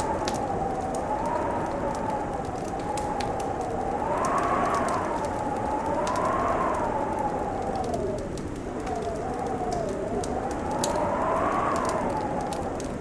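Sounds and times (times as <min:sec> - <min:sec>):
howling wind: 0:00.0 - 0:13.0
wood fire crackling: 0:00.0 - 0:13.0.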